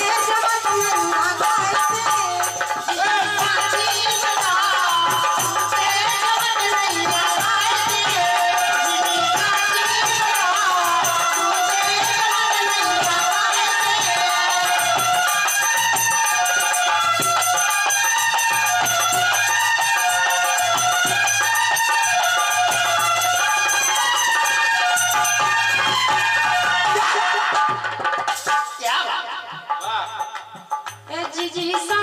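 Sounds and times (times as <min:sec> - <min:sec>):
dholak drum beat: 0:00.0 - 0:32.0
harmonium folk tune: 0:00.0 - 0:32.0
rattling percussion: 0:00.0 - 0:32.0.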